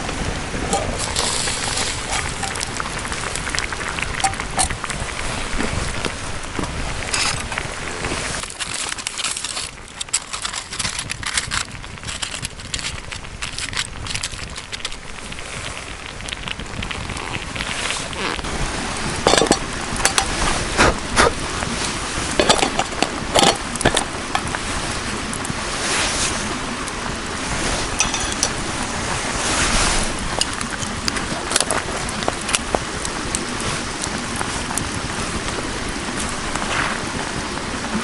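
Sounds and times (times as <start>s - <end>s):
burning wood popping: 0.0s - 38.0s
campfire crackling: 0.0s - 38.0s.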